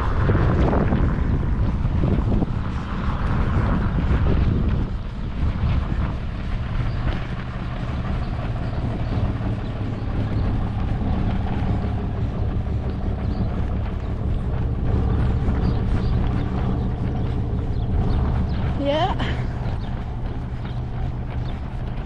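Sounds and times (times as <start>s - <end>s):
vehicle engine humming: 0.0s - 22.0s
wind rumbling on microphone: 0.0s - 22.0s.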